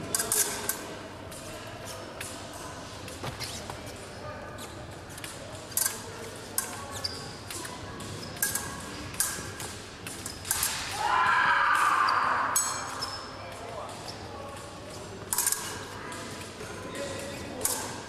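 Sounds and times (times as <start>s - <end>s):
fencing blades clashing: 0.0s - 3.2s, 4.9s - 18.0s.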